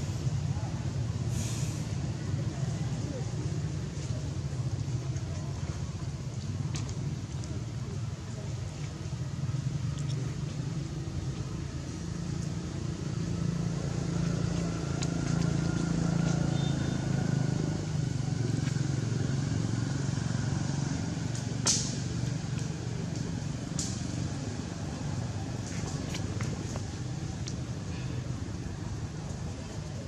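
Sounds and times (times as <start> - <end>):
low engine rumble: 0.0 - 30.0.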